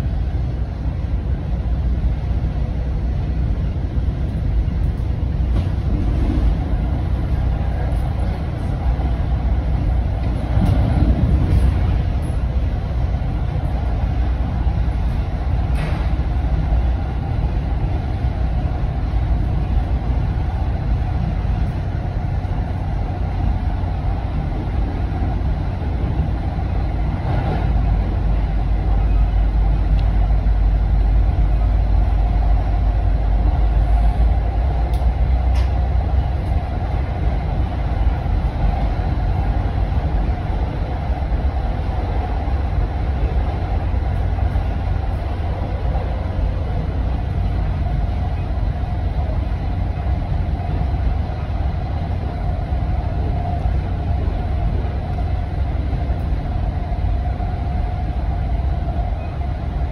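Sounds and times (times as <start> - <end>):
train rumble and rail noise: 0.0 - 59.9.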